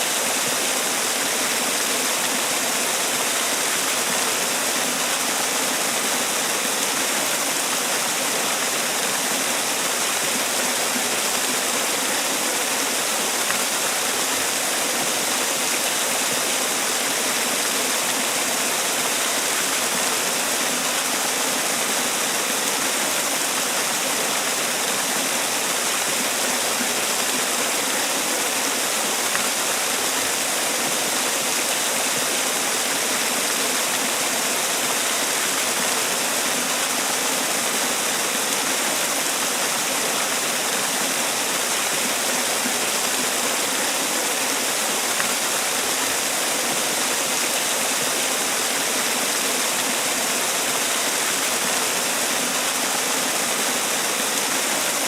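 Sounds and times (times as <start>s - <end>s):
waterfall splashing: 0.0s - 55.0s.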